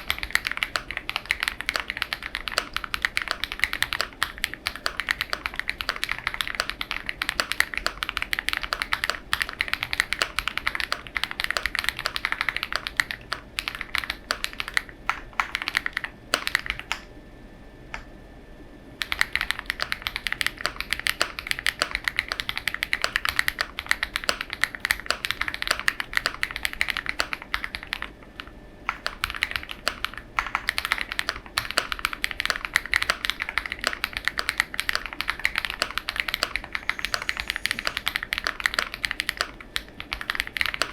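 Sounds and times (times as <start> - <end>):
fast typing on mechanical keyboard: 0.0 - 17.0, 19.0 - 40.9.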